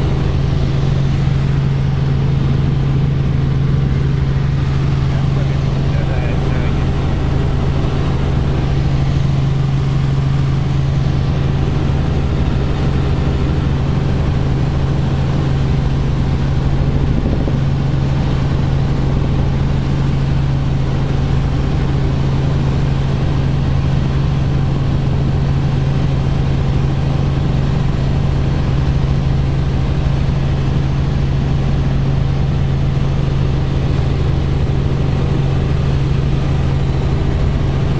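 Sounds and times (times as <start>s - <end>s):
helicopter engine and rotors droning: 0.0s - 37.9s.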